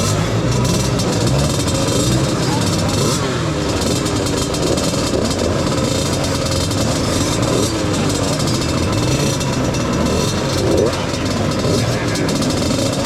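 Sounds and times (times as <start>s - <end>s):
off-road motorcycles running: 0.0s - 13.0s.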